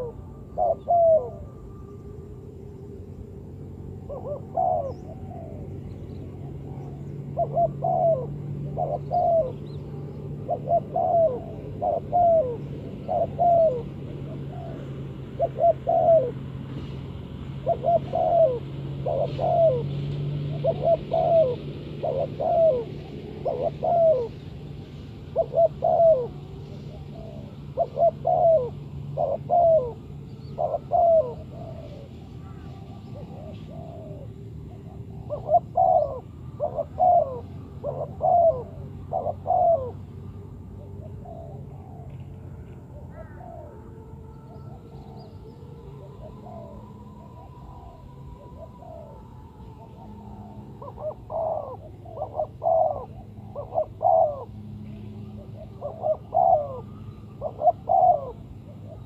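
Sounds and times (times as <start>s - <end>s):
dove cooing: 0.0s - 59.0s
steady low hum: 0.0s - 59.0s.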